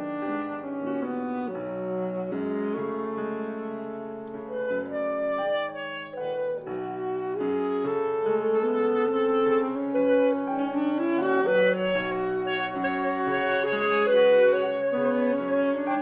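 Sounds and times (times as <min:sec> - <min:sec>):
alto saxophones playing: 0:00.0 - 0:16.0
grand piano accompaniment: 0:00.0 - 0:16.0.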